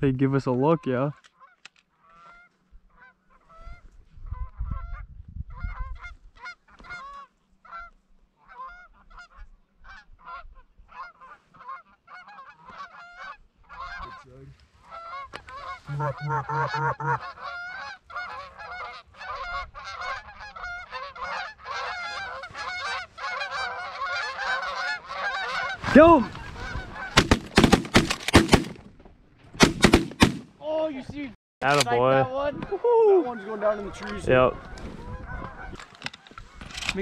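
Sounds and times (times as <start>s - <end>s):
geese honking and cackling: 0.8s - 27.7s, 31.8s - 36.7s.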